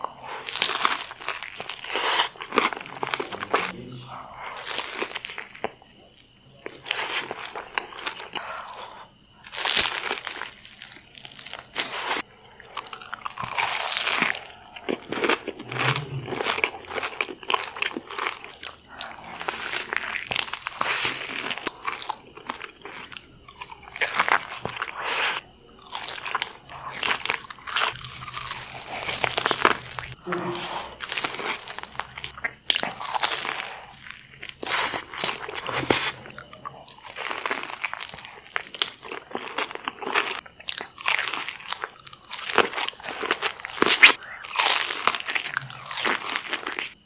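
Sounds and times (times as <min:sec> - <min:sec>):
crunching bites and chewing: 0:00.0 - 0:47.0.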